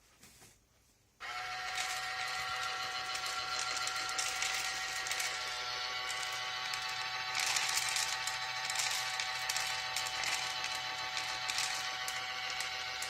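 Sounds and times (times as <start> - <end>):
motor whining: 1.2 - 13.0
clicking and rattling: 1.7 - 13.0.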